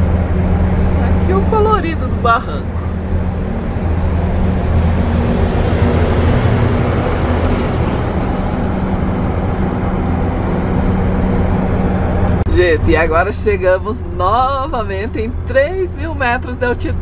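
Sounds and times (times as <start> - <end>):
heavy vehicle engine droning: 0.0 - 17.0
road noise: 0.0 - 17.0.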